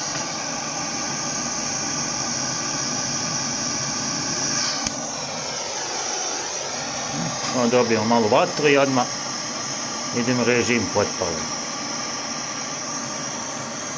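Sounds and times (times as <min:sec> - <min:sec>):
blower motor rushing air: 0:00.0 - 0:13.9.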